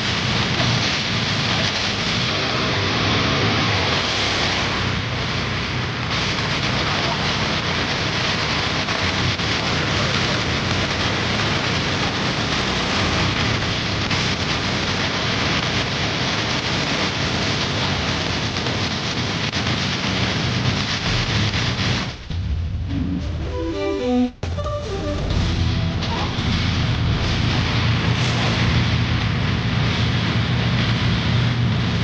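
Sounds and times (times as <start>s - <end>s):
loud steady rushing noise: 0.0s - 32.0s.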